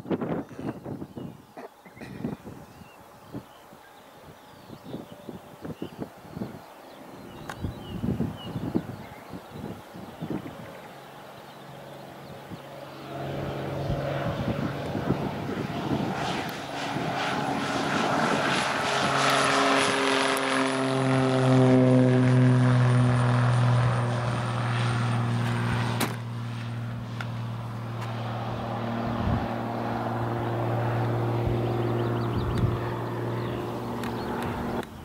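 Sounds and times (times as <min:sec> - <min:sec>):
propeller plane engine droning: 0:00.0 - 0:35.0.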